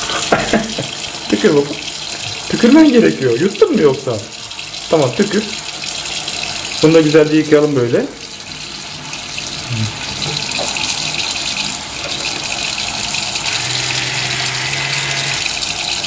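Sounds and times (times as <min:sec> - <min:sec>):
water running from tap: 0:00.0 - 0:16.0.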